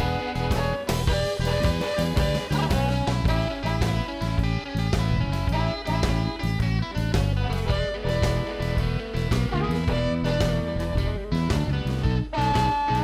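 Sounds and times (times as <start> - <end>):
upbeat guitar and drum music: 0.0 - 13.0.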